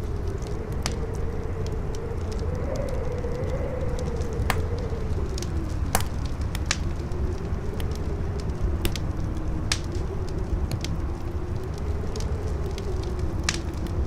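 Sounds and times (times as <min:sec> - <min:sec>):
fire crackling and popping: 0:00.0 - 0:14.0
howling wind: 0:00.0 - 0:14.0.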